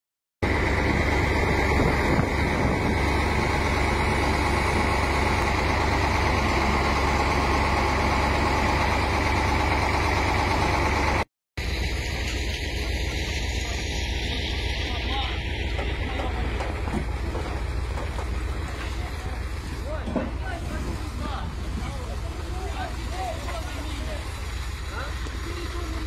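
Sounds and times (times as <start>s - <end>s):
truck engine rumbling: 0.4s - 26.0s.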